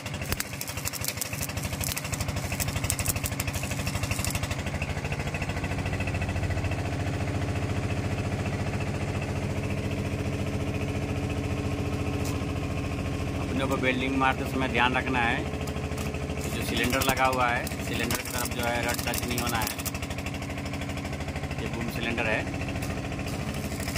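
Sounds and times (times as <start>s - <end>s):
engine idling: 0.0s - 23.9s.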